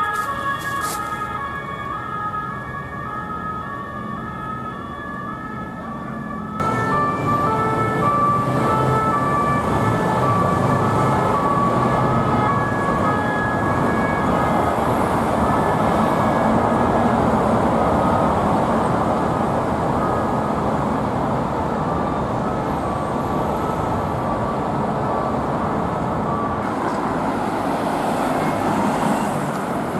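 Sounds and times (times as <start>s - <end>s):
traffic and engine noise: 0.0s - 29.9s
two-tone police siren: 0.0s - 29.9s.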